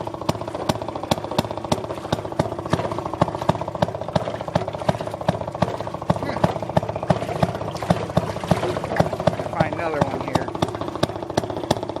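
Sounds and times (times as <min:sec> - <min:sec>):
engine knocking: 0:00.0 - 0:12.0
small gas engine running: 0:00.0 - 0:12.0.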